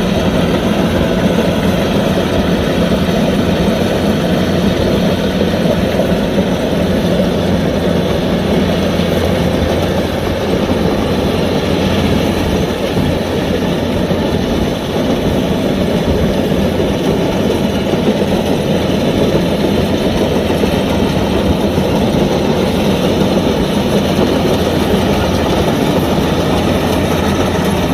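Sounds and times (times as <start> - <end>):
combine harvester diesel engine running: 0.0 - 27.9.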